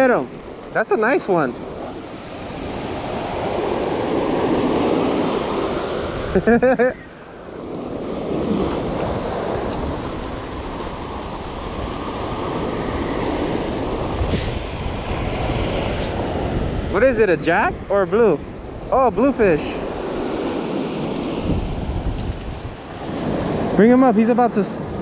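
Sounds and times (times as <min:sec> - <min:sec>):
surf breaking on beach: 0:00.0 - 0:25.0
wind buffeting microphone: 0:00.0 - 0:25.0.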